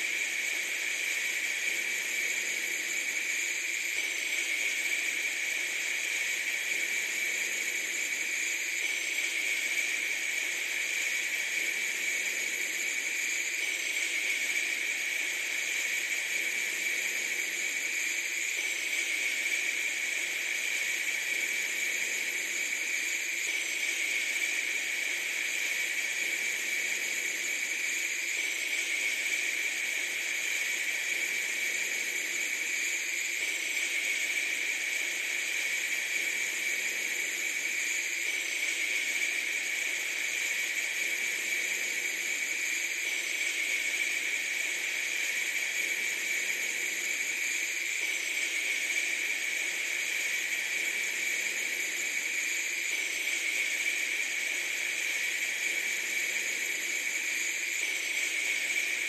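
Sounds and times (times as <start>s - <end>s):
steady bright hiss: 0.0s - 59.0s.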